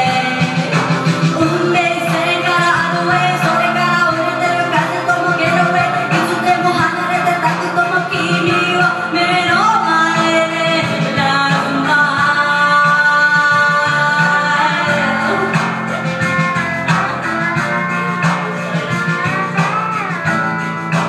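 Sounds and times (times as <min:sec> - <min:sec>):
backing track with guitar: 0:00.0 - 0:21.0
woman singing into microphone: 0:00.0 - 0:21.0.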